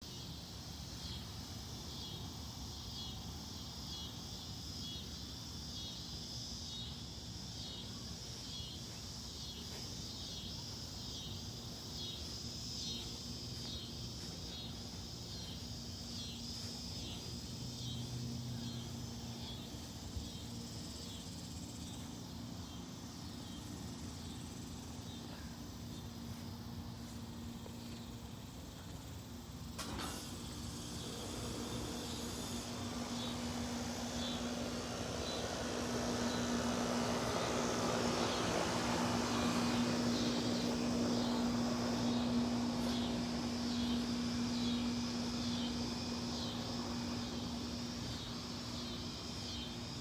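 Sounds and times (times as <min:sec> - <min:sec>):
air conditioner hum: 0:00.0 - 0:50.0
crickets and night insects chirping: 0:00.0 - 0:50.0.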